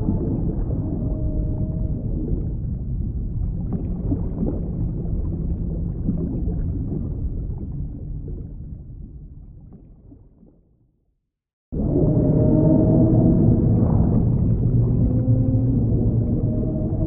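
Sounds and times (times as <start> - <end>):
underwater rumble of moving water: 0.0 - 11.0, 11.8 - 17.0.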